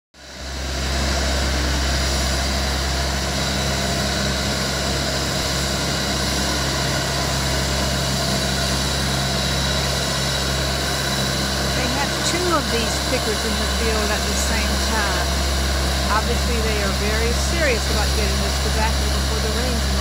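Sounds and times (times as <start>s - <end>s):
harvester engine drone: 0.2s - 20.0s.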